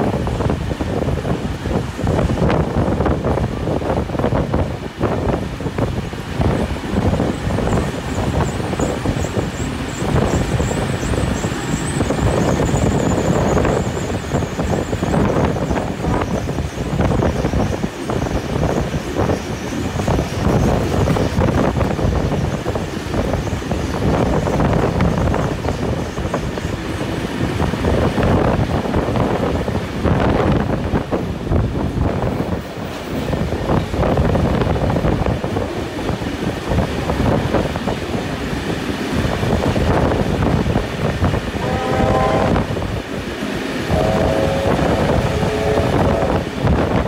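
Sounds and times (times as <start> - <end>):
passing train alongside: 0.0 - 47.0
train wheels clattering on rails: 0.0 - 47.0.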